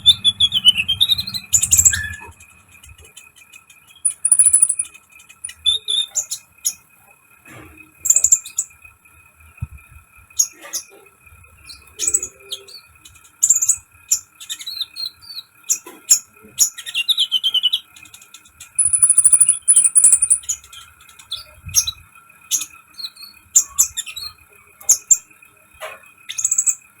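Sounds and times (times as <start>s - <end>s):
bird chirping and whistling: 0.0s - 6.8s, 8.0s - 8.7s, 11.6s - 25.3s, 26.3s - 26.9s
faint steady high hum: 0.0s - 27.0s.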